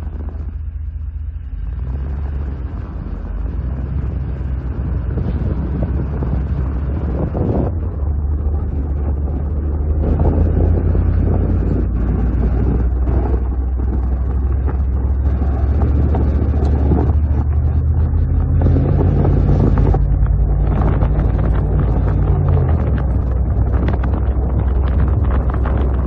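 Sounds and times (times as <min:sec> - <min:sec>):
truck engine droning: 0:00.0 - 0:26.0
wind buffeting microphone: 0:00.0 - 0:26.0.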